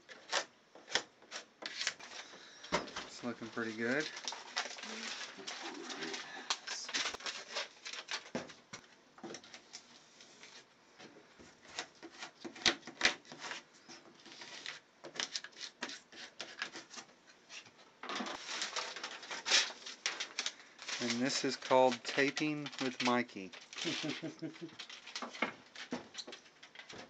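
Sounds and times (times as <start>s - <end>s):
tape crinkling and rustling: 0.0s - 27.0s.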